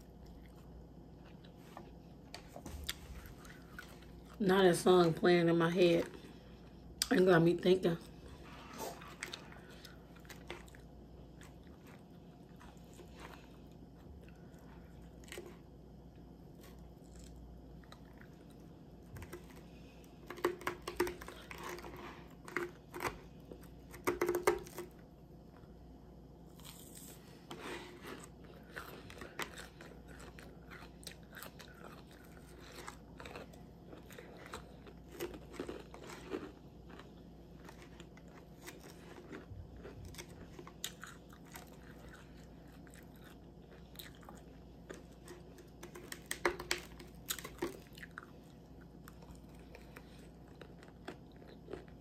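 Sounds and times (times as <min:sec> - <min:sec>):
chewing crunchy salad: 0:00.0 - 0:25.7, 0:26.5 - 0:52.0.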